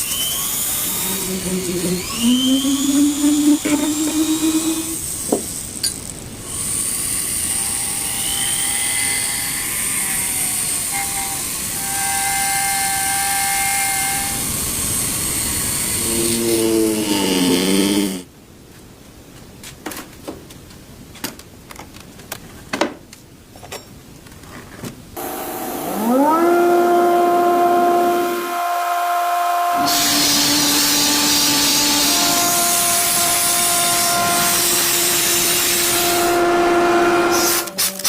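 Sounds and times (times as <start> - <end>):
power tool hissing and whining: 0.0 - 18.2, 25.2 - 38.0.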